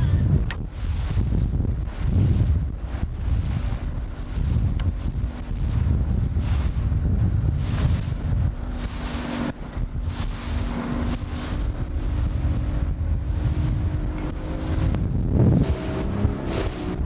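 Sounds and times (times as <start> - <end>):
boat engine droning: 0.0 - 17.0
wind buffeting microphone: 0.0 - 17.0.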